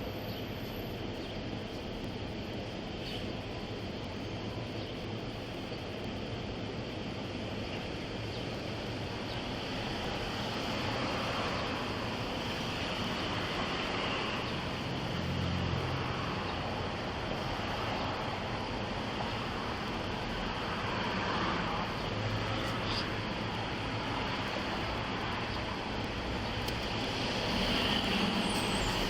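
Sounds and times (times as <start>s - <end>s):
rushing outdoor noise: 0.0s - 29.0s.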